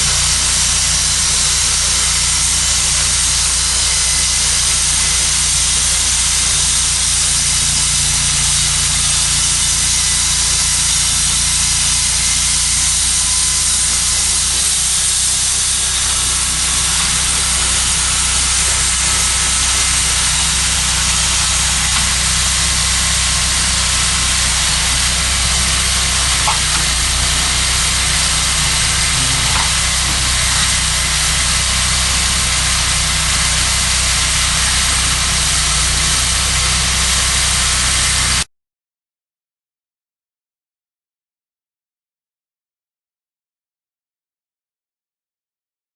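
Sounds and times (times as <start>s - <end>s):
loud even hiss: 0.0s - 38.5s
sawmill engine drone: 0.0s - 38.5s.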